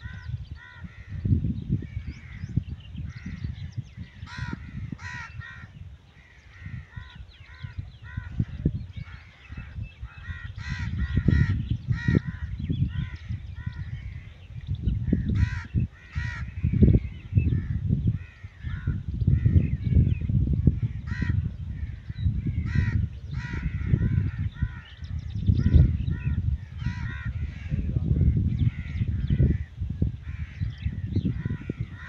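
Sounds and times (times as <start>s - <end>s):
birds calling harshly: 0.0s - 32.0s
low gusting rumble: 0.0s - 32.0s.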